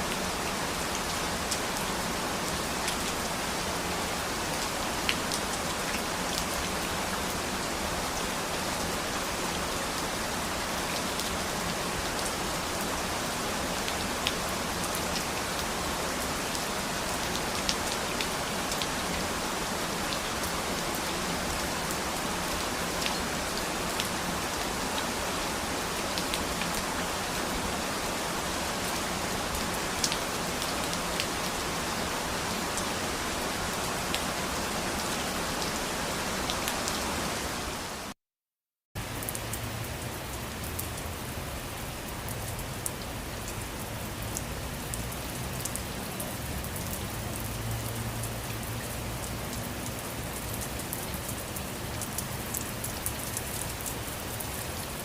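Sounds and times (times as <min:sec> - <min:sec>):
rain falling on a surface: 0:00.0 - 0:38.2, 0:39.0 - 0:55.0.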